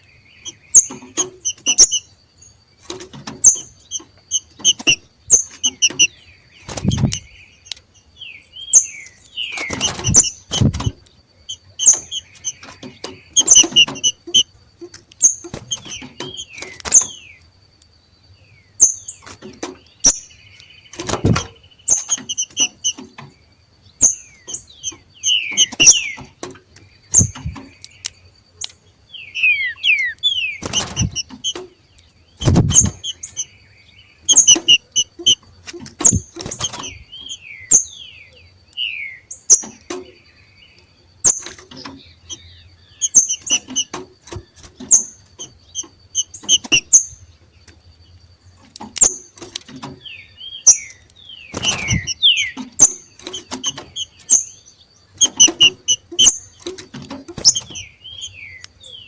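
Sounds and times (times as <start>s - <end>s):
birds rapid chirping calls: 0.0s - 59.0s.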